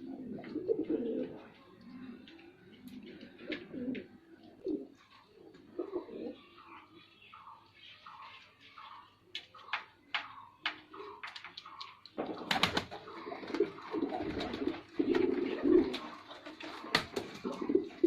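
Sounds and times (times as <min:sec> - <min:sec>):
pigeon cooing: 0:00.0 - 0:18.0.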